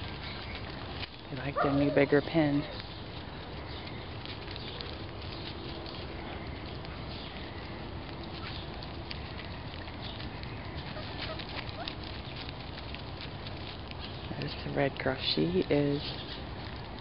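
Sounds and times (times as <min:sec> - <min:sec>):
puppies rustling in leaves: 0:00.0 - 0:17.0.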